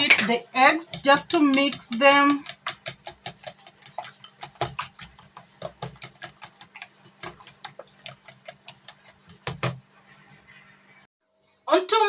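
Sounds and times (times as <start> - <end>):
utensil knocking on bowl: 0.0 - 9.8
whisk clicking against bowl: 0.0 - 9.9.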